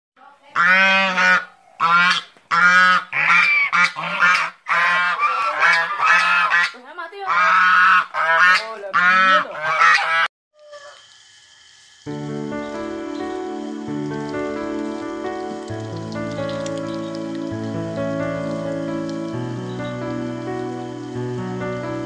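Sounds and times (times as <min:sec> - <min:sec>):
geese honking: 0:00.6 - 0:10.3, 0:12.3 - 0:22.0.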